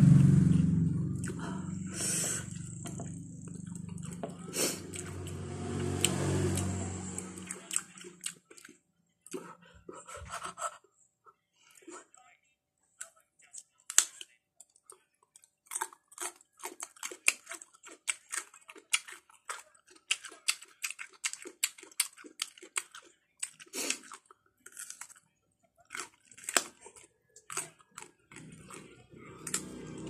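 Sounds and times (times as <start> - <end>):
chewing crisp fruit: 0.1 - 10.9, 13.0 - 30.0.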